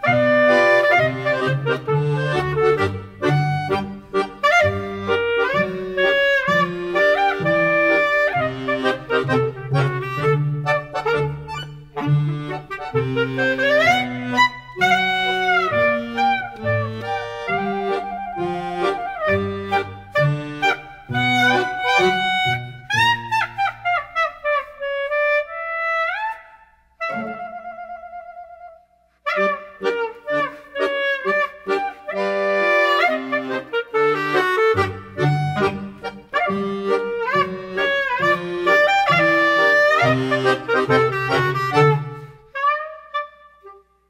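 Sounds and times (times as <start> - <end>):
lively instrumental music: 0.0 - 44.0.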